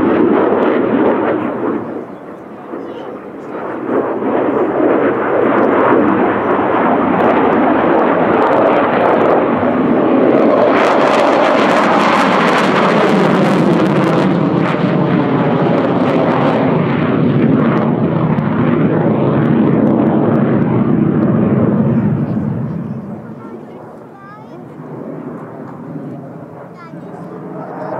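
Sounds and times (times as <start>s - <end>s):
fighter jet flying past: 0.0s - 27.9s
jet engine crackling: 0.0s - 27.9s.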